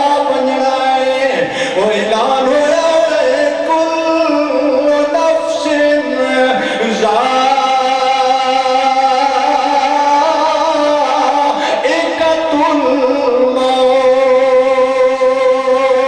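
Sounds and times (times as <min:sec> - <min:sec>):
man singing long held notes: 0:00.0 - 0:16.0.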